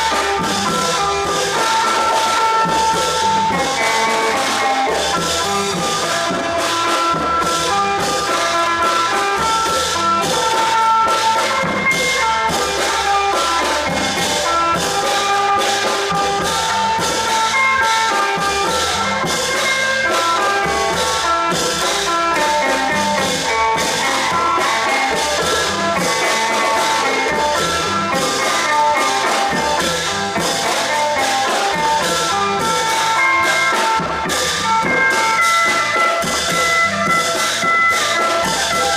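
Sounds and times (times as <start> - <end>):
drum and cymbal beat: 0.0 - 38.9
held melodic notes: 0.0 - 38.9.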